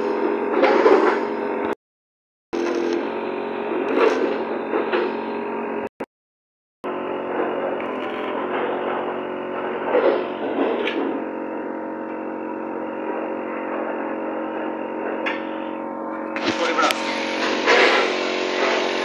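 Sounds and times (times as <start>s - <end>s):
arc welder humming and hissing: 2.6s - 5.9s, 6.9s - 19.0s.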